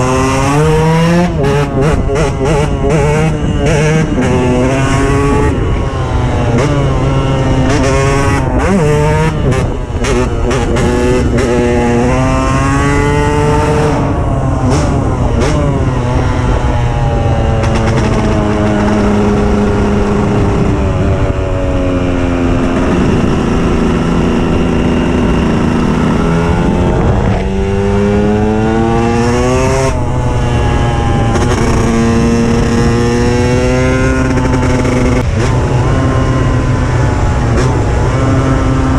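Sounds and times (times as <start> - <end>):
two-stroke motorcycle accelerating: 0.0 - 38.9.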